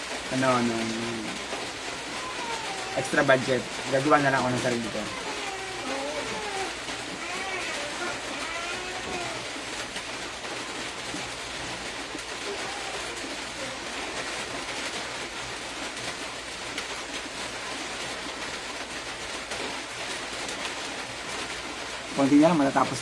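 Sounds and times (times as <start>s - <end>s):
background hiss: 0.0s - 23.0s.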